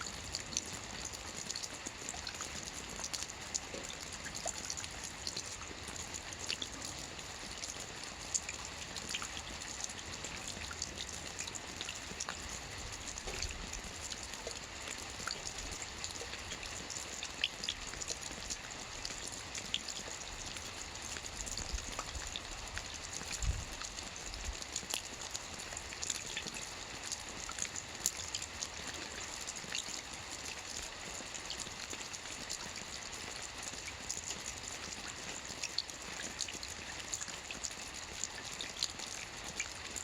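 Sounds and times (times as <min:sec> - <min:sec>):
raindrops ticking on surface: 0:00.0 - 0:40.0
steady rain: 0:00.0 - 0:40.0.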